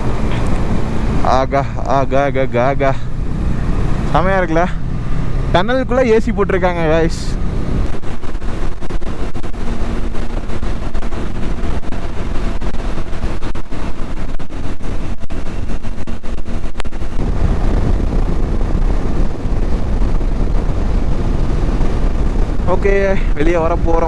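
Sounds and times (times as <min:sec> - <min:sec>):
motorcycle engine cruising: 0:00.0 - 0:24.0
wind rumble on microphone: 0:00.0 - 0:24.0.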